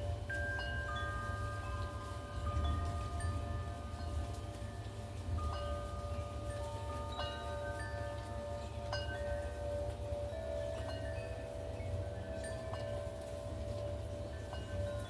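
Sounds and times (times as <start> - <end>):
wind chimes ringing: 0.0 - 15.0.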